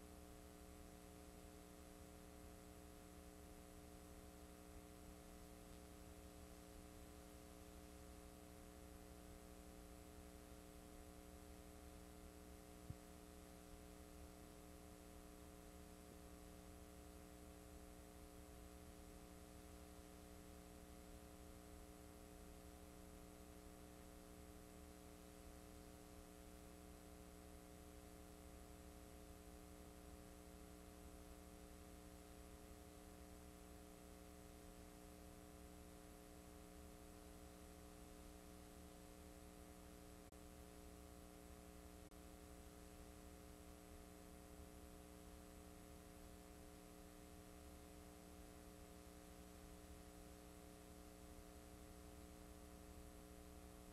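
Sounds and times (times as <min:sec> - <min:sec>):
faint electrical hum: 0:00.0 - 0:53.9
tape hiss: 0:00.0 - 0:53.9.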